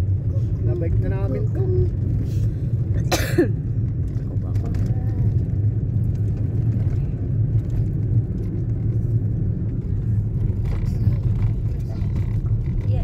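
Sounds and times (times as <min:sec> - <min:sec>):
car engine rumble: 0:00.0 - 0:13.0
tyre road noise: 0:00.0 - 0:13.0.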